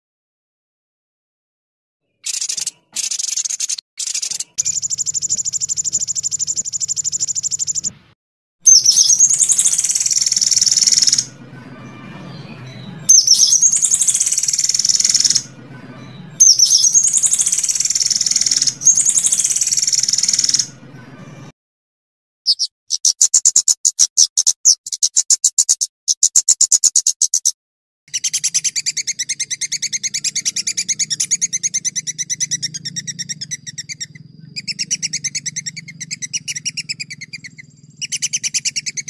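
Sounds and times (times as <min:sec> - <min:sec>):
bird chattering notes: 0:02.2 - 0:07.9, 0:08.7 - 0:11.3, 0:12.4 - 0:15.5, 0:16.1 - 0:20.8, 0:22.5 - 0:39.0
songbird high-pitched trill: 0:02.2 - 0:07.9, 0:08.7 - 0:21.4, 0:22.5 - 0:27.5, 0:28.1 - 0:39.0.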